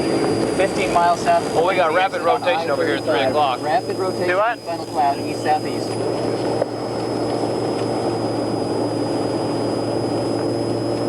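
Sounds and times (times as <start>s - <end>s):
faint high whine: 0.0s - 11.0s
van engine and road noise: 0.0s - 11.0s.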